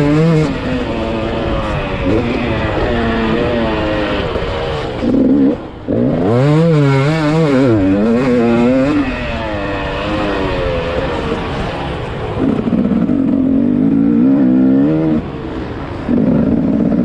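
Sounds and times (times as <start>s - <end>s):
motocross engine revving: 0.0s - 17.0s.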